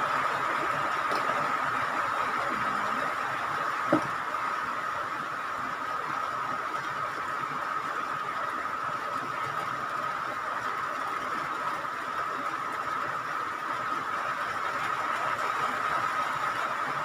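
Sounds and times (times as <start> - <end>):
constant thin whine: 0.0 - 17.0.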